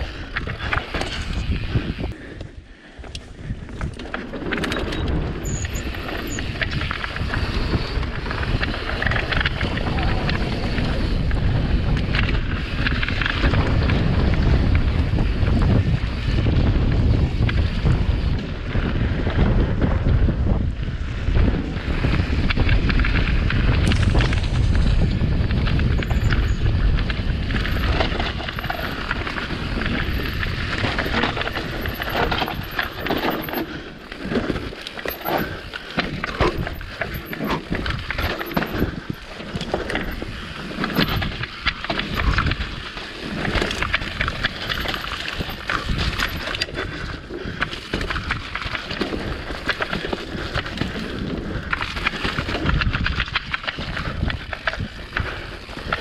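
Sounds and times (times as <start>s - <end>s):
bike rattling and clicking: 0.0s - 56.0s
wind rumble on microphone: 0.0s - 56.0s.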